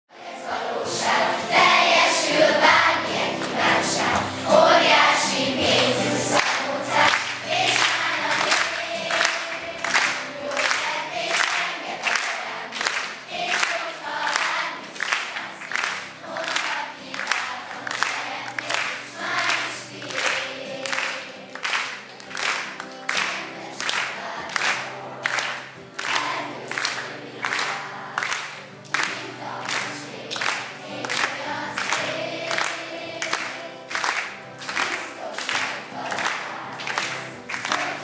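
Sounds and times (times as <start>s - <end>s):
children's choir singing: 0.1s - 38.0s.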